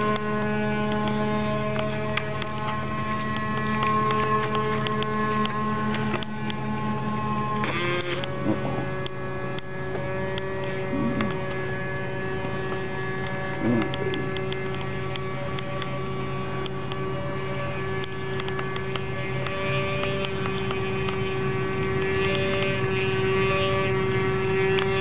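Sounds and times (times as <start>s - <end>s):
model boat motor whining: 0.0s - 25.0s.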